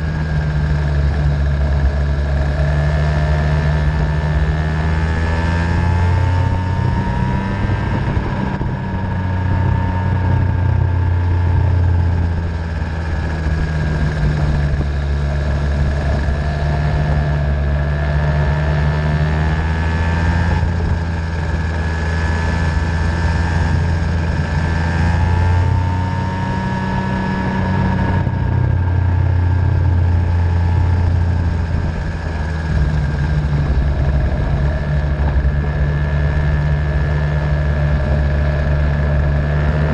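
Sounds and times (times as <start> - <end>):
low rumble: 0.0 - 39.9
small racing engine: 0.0 - 39.9.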